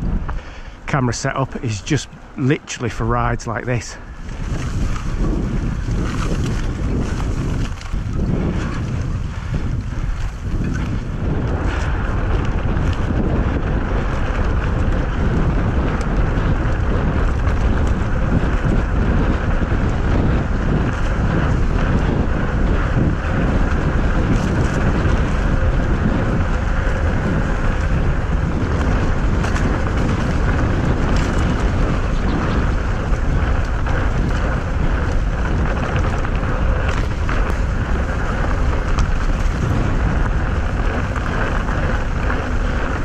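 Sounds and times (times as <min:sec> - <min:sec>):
bike tyres on dirt track: 0:00.0 - 0:43.0
wind buffeting microphone: 0:00.0 - 0:43.0.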